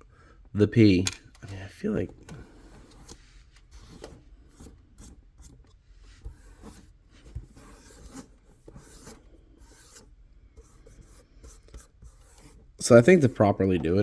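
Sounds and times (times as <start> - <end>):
faint rubbing and scratching: 2.4 - 14.0.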